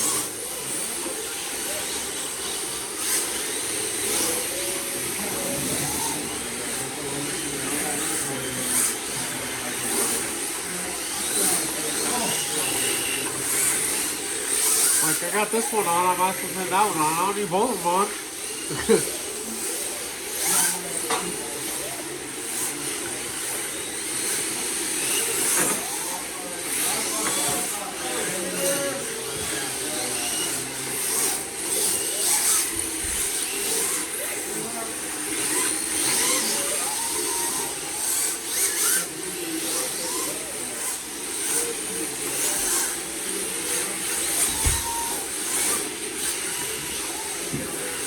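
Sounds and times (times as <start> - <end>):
electric motors whining: 0.0 - 48.0.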